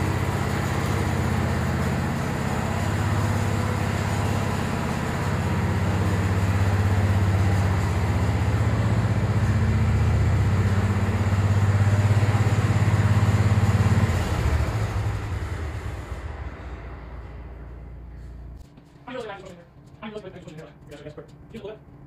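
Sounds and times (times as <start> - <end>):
engine running and winding down: 0.0 - 19.5.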